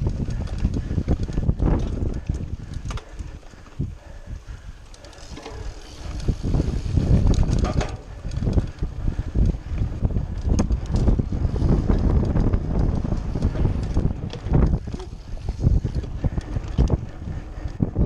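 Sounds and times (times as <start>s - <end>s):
bike chain and frame rattling: 0.0s - 18.0s
bike tyre rumble: 0.0s - 18.0s
wind buffeting microphone: 0.0s - 18.0s.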